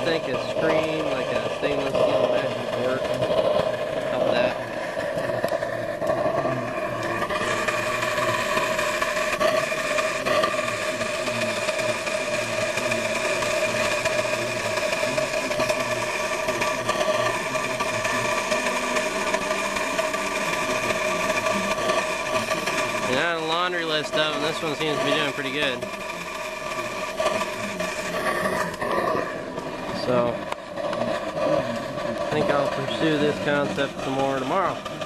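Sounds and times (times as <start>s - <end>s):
burner flame rushing and humming: 0.0s - 35.0s.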